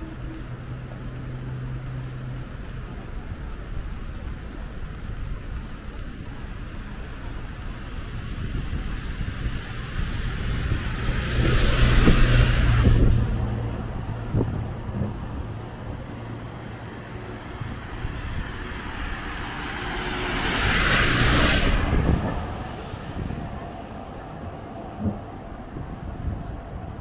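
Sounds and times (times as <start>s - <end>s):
tyres hissing on wet road: 0.0s - 26.9s
traffic engine hum: 0.0s - 27.0s.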